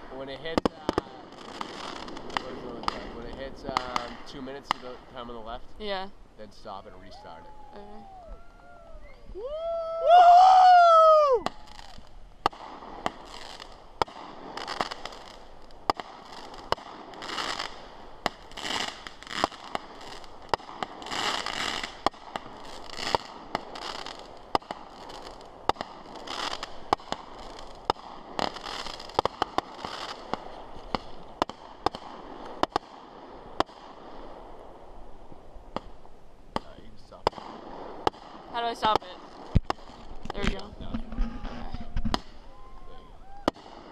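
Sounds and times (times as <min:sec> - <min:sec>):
fireworks banging: 0:00.0 - 0:08.4, 0:10.6 - 0:43.9
fireworks crackling: 0:00.0 - 0:43.9.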